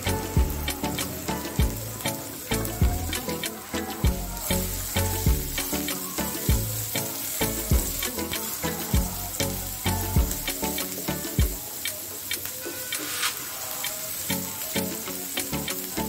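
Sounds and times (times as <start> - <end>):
background music with beat: 0.0 - 16.0
onions sizzling in oil: 0.0 - 16.0.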